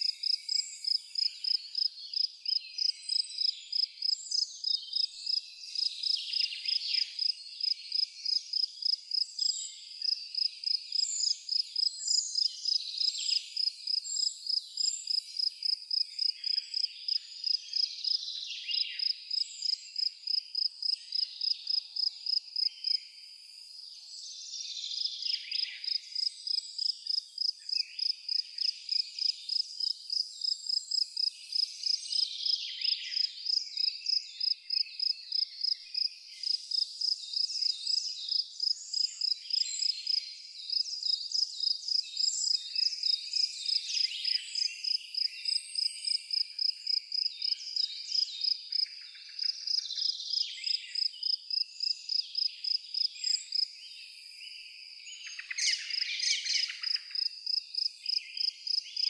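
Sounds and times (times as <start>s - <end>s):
cricket chirping: 0.0s - 23.8s, 24.9s - 59.0s.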